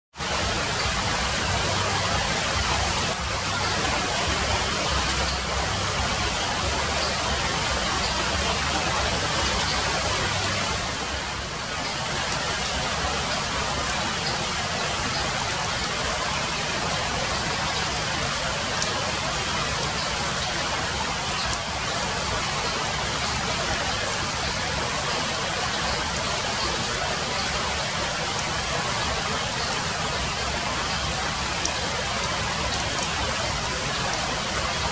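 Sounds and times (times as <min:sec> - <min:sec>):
rain on foliage: 0:00.1 - 0:34.9.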